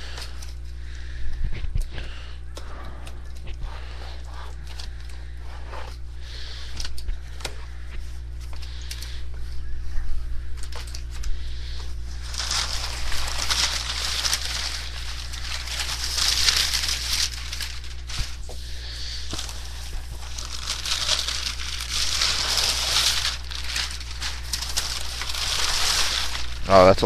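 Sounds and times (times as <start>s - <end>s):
packing paper crinkling: 0.0s - 27.0s.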